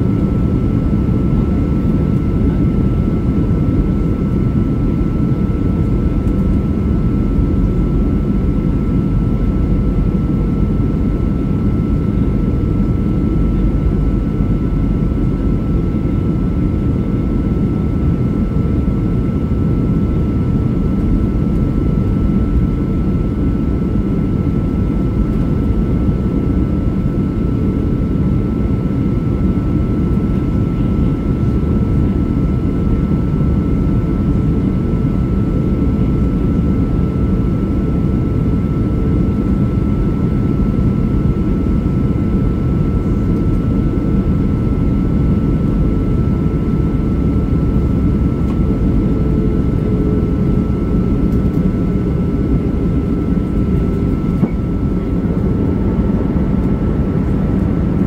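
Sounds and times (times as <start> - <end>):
jet engine and airflow rumble: 0.0 - 58.0.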